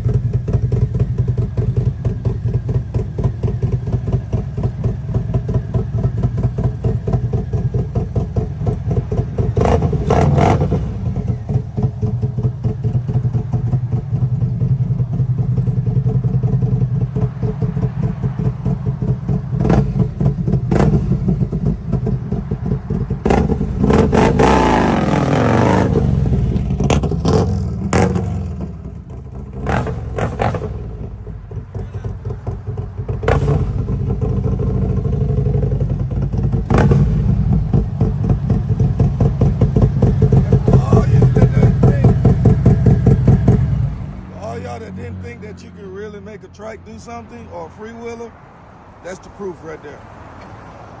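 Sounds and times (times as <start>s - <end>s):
motorcycle engine revving: 0.0s - 48.3s.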